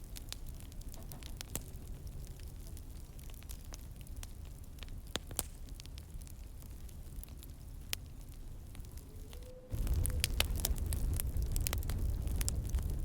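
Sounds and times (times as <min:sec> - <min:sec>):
fire crackles and pops: 0:00.0 - 0:13.0
fire rumbling and hissing: 0:00.0 - 0:13.0.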